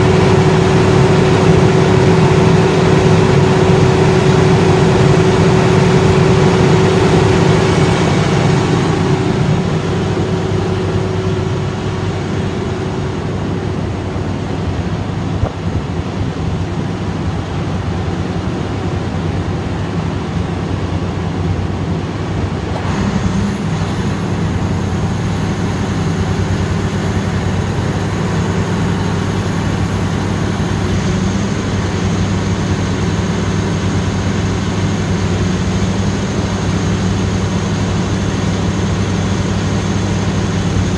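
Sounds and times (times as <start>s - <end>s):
diesel generator humming: 0.0s - 40.9s.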